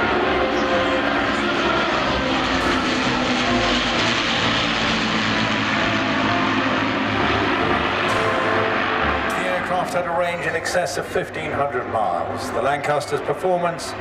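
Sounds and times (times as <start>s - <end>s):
propeller aircraft engines in flight: 0.0s - 14.0s.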